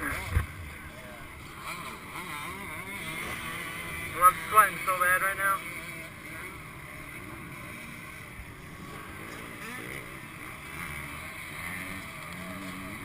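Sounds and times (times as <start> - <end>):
distant dirt bike engines: 0.0 - 13.0.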